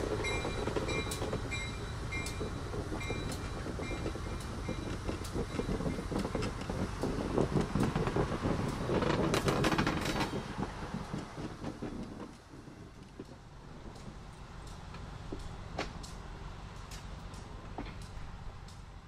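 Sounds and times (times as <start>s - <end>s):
knocks and clicks of wheels: 0.0s - 19.0s
railcar rumbling on rails: 0.0s - 19.0s.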